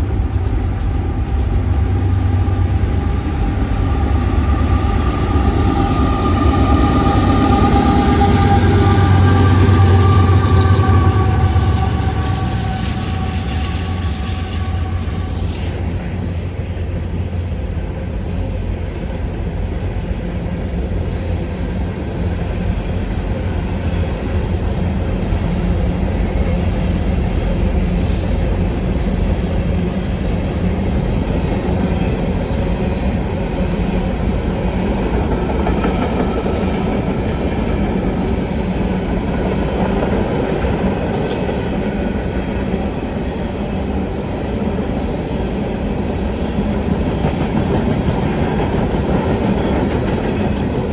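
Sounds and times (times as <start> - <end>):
railcars rolling past: 0.0 - 50.9.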